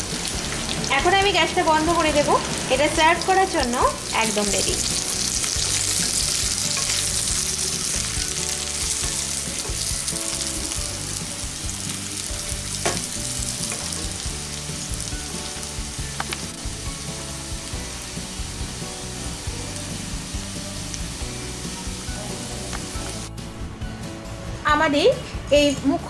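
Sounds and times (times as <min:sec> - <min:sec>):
potato slices sizzling in oil: 0:00.0 - 0:23.3.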